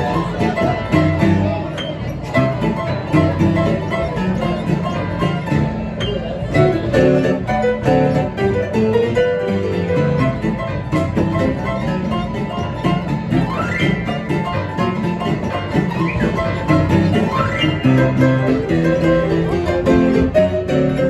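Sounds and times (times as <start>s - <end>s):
guitar: 0.0s - 21.0s
plucked banjo: 0.0s - 21.0s.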